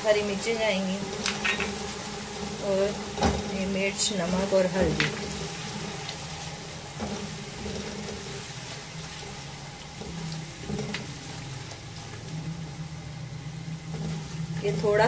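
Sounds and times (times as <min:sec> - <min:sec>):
low steady hum: 0:00.0 - 0:15.0
oil sizzling in a pot: 0:00.0 - 0:15.0.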